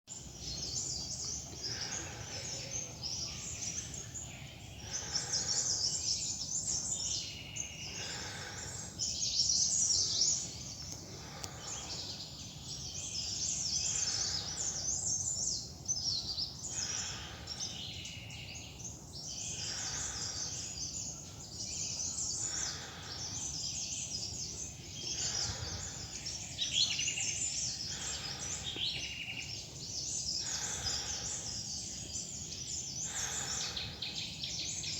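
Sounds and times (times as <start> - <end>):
forest birds chirping: 0.1 - 34.9.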